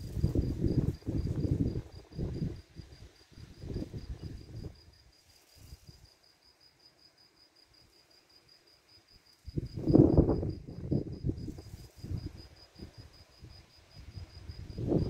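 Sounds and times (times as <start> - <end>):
cricket chirping trill: 0.0 - 15.0.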